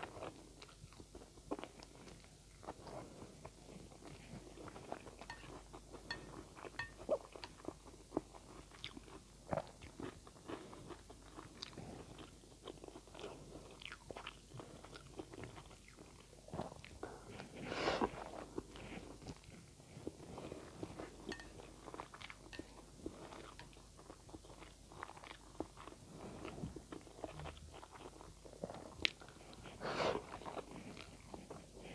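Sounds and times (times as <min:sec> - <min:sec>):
person chewing and slurping noodles: 0:00.0 - 0:31.9.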